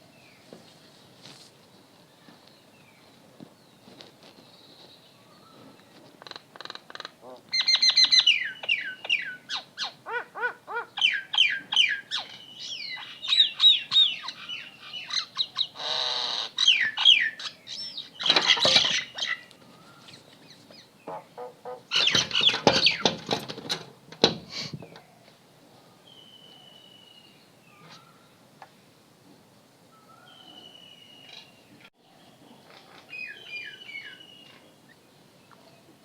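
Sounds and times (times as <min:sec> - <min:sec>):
birds chirping: 0:00.1 - 0:23.2, 0:29.9 - 0:36.0.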